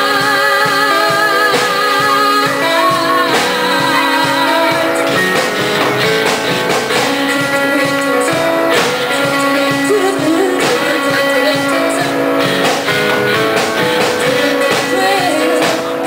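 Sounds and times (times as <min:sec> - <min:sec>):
live rock band playing: 0:00.0 - 0:16.0
woman singing with vibrato: 0:00.0 - 0:16.0.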